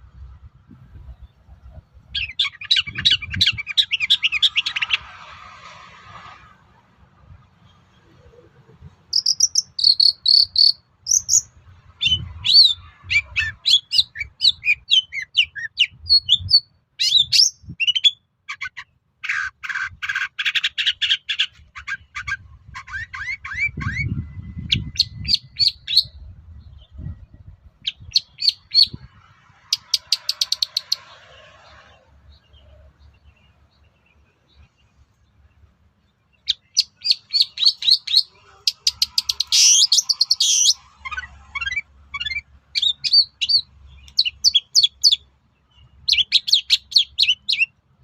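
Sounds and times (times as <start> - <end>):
bird singing chirps and trills: 0.8 - 5.0, 7.6 - 47.8.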